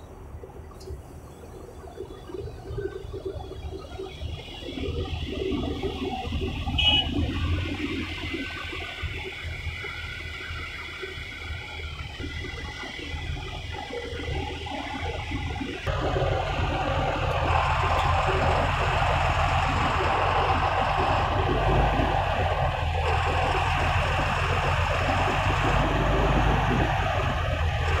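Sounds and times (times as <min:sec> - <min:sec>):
bus engine running: 0:00.0 - 0:28.0
street traffic: 0:00.0 - 0:28.0.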